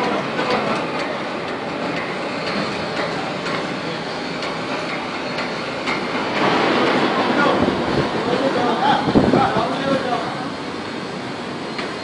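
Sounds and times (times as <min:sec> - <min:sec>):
industrial machinery din: 0:00.0 - 0:12.0.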